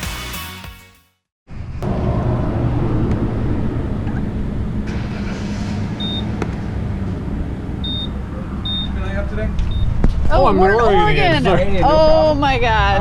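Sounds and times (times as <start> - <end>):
road noise: 1.5 - 13.0
van engine rumble: 1.5 - 13.0.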